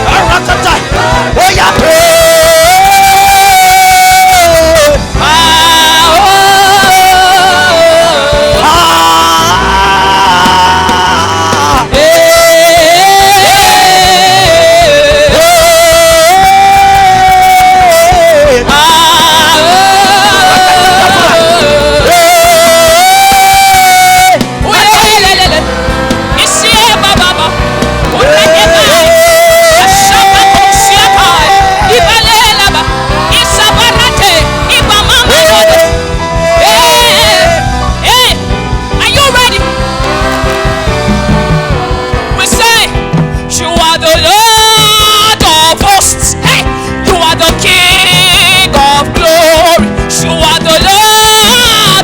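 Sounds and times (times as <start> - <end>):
gospel singing with vibrato: 0.0 - 52.0
instrumental backing: 0.0 - 52.0.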